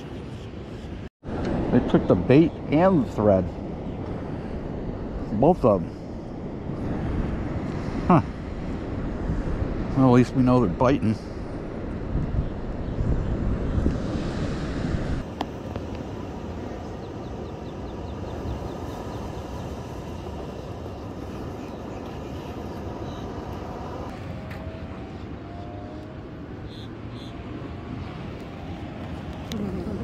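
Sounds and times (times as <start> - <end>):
wind on microphone: 0.0 - 30.0
ocean surf breaking: 1.3 - 30.0.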